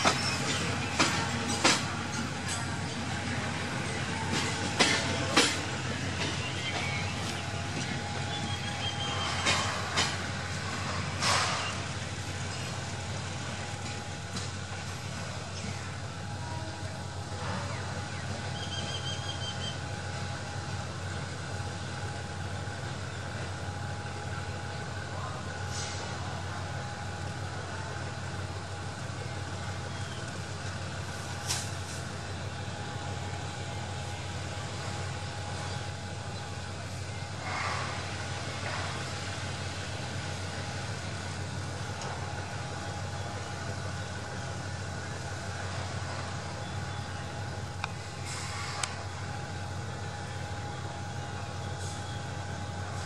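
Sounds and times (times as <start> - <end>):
diesel locomotive engine rumbling: 0.0 - 53.0.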